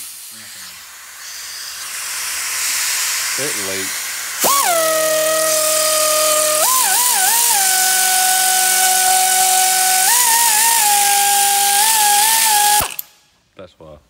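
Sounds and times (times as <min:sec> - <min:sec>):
hissing exhaust air: 0:00.0 - 0:13.1
air ratchet motor whine: 0:00.0 - 0:13.2.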